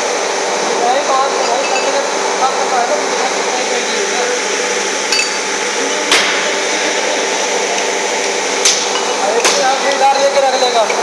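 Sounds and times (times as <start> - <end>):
machinery whirring: 0.0 - 11.0.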